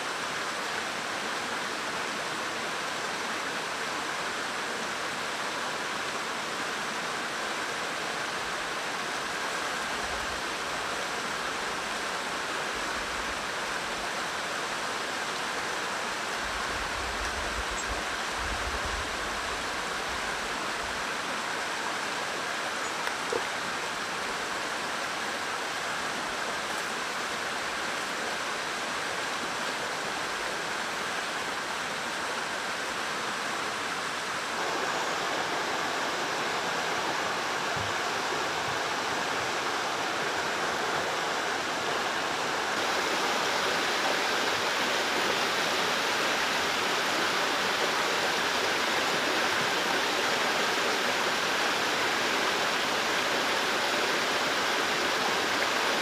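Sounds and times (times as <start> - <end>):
mountain stream rushing over stones: 0.0 - 56.0.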